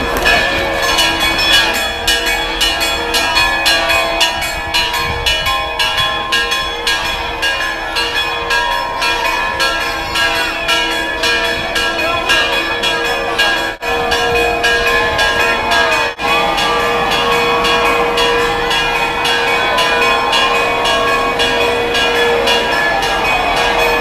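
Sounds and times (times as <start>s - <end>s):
church bells pealing: 0.0s - 24.0s
crowd voices: 0.0s - 24.0s.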